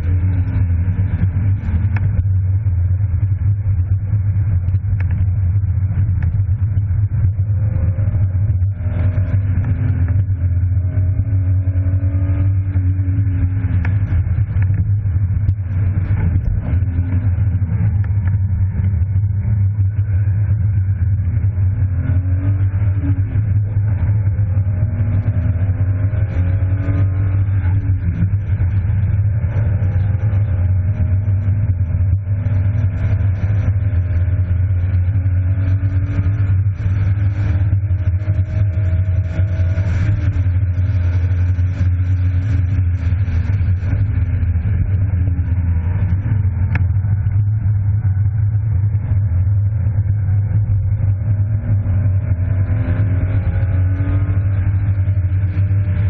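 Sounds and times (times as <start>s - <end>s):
car engine revving: 0.0s - 56.0s
low drone: 0.0s - 56.0s.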